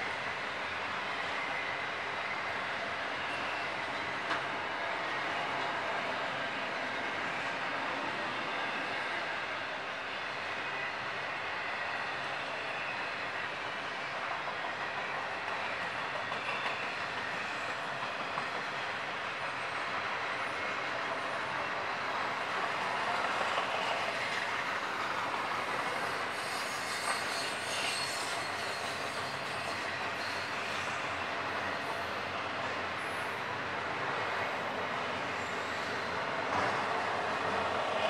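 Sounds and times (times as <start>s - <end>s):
train wheels on rails: 0.0s - 38.0s.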